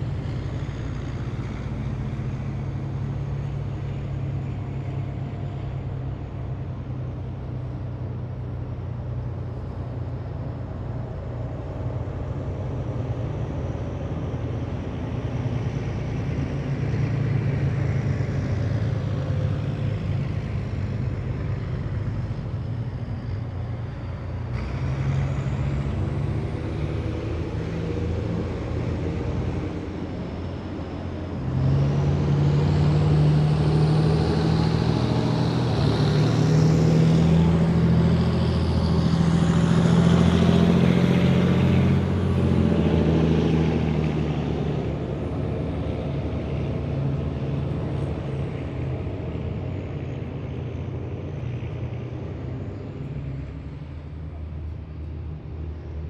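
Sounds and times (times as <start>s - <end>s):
heavy diesel vehicles droning: 0.0s - 56.0s.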